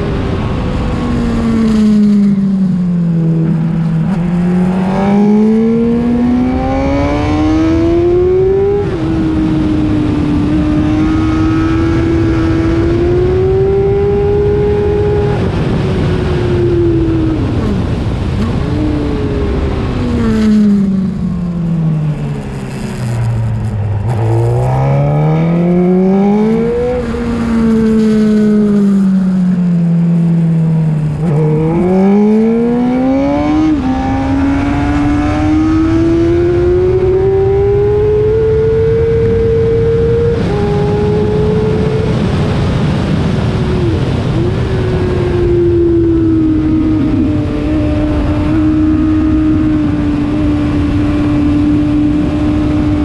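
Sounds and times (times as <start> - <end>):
heavy wind rush: 0.0 - 53.0
motorcycle engine at high revs: 0.0 - 53.0.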